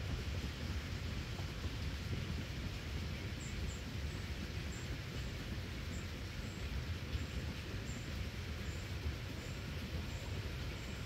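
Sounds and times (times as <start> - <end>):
distant steam train rumble: 0.0 - 11.0
wind on microphone: 0.0 - 11.0.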